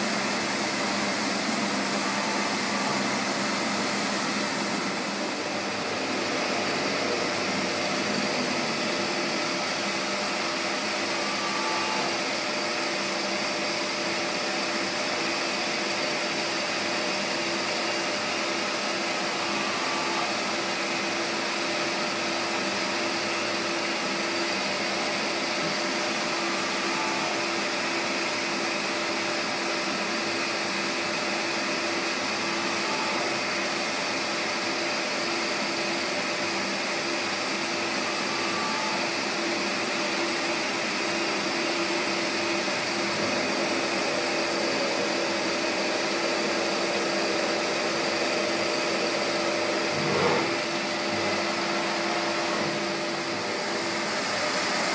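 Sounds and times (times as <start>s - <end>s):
milling machine motors whirring: 0.0s - 54.9s.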